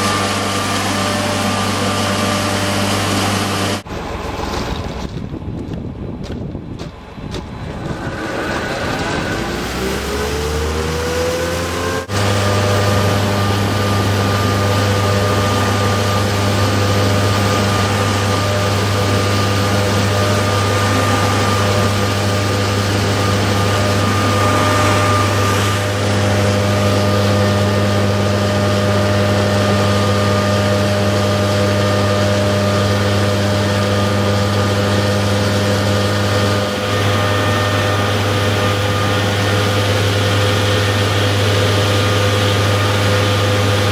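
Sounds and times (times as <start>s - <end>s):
engine-driven blower humming: 0.0s - 43.9s.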